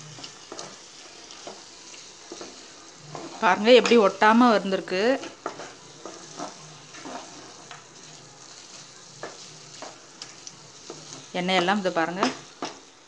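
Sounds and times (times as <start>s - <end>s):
low sizzle: 0.0s - 13.0s
spatula scraping a frying pan: 0.0s - 13.0s.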